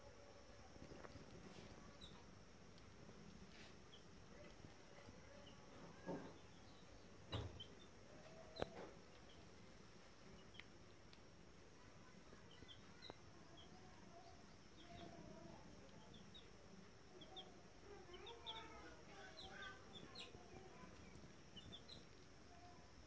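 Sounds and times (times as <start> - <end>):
faint low murmur: 0.0 - 23.0
chicks peeping: 0.2 - 11.2, 11.8 - 23.0.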